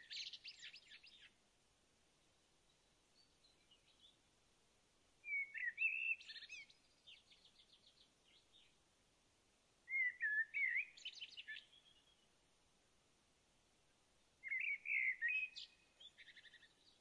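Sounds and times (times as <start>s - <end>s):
songbird singing: 0.0s - 12.9s, 13.7s - 17.0s.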